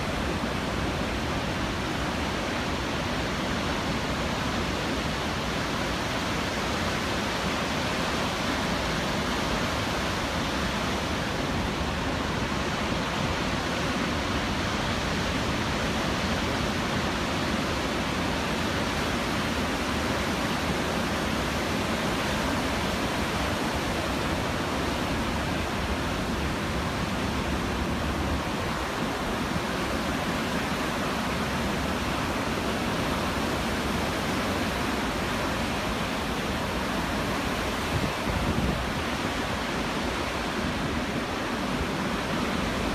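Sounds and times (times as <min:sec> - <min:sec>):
heavy surf roaring at shore: 0:00.0 - 0:42.9.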